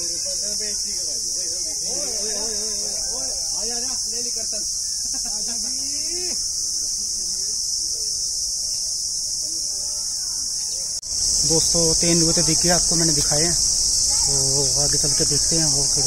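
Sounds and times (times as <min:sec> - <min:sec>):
faint people talking: 0:00.0 - 0:16.0
high-pitched insect drone: 0:00.0 - 0:16.0.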